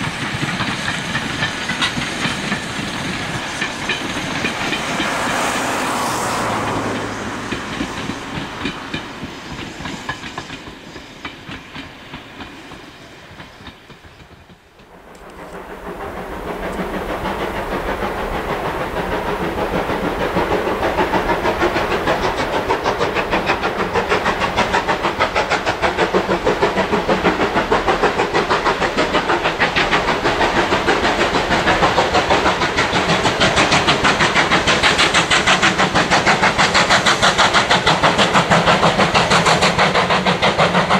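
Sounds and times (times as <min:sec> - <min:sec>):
passing train: 0:00.0 - 0:40.9
steam locomotive exhaust beats: 0:00.0 - 0:40.9.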